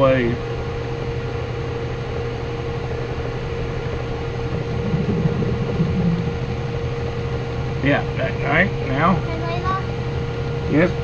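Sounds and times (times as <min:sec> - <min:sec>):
lathe motor and belt hum: 0:00.0 - 0:11.0.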